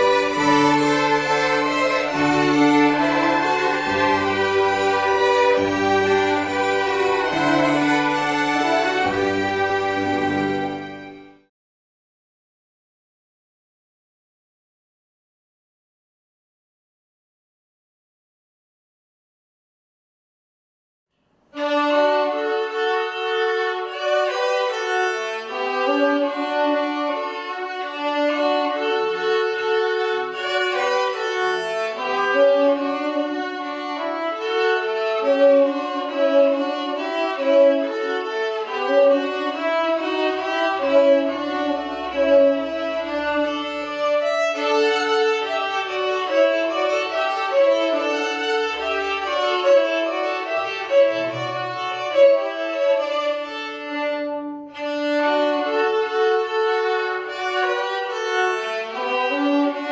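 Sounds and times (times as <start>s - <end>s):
violin duet: 0.0s - 11.5s, 21.5s - 59.9s.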